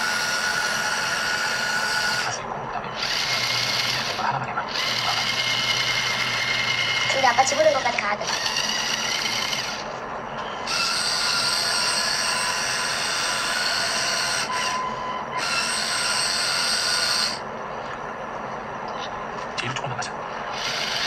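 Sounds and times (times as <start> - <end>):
electric motors whirring through gears: 0.0 - 21.0.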